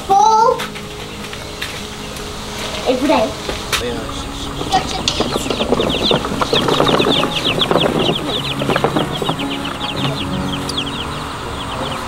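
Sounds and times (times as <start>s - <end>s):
chicks peeping: 0.0s - 12.0s
chickens clucking: 0.5s - 12.0s.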